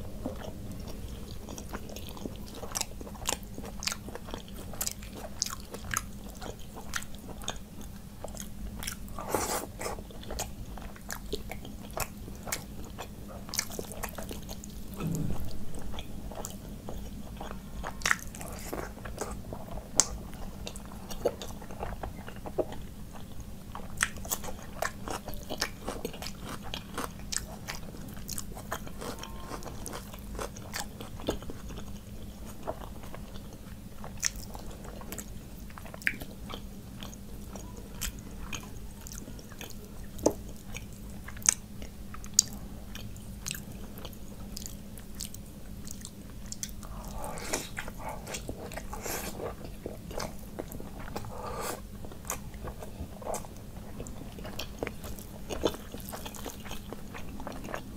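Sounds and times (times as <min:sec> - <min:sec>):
person chewing with wet smacking: 0:00.2 - 0:57.9.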